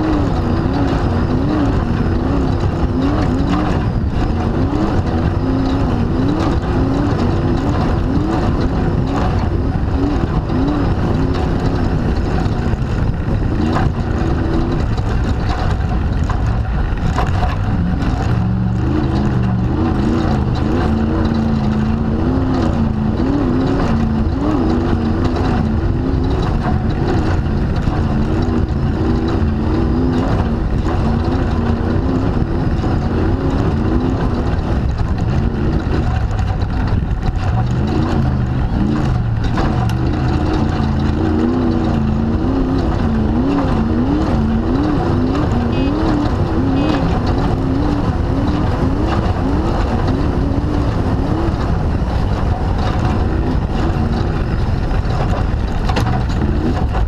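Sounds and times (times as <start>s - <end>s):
car knocking and rattling over bumps: 0.0s - 57.0s
race car engine running hard: 0.0s - 57.0s.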